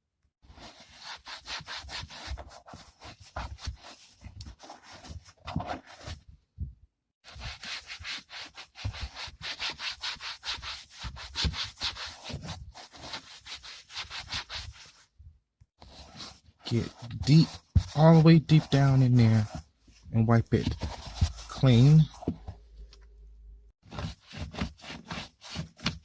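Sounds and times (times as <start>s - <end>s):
cloth rag rubbing scratchily: 0.4s - 6.2s, 7.2s - 15.0s, 15.8s - 19.7s, 20.6s - 22.2s, 23.8s - 26.0s.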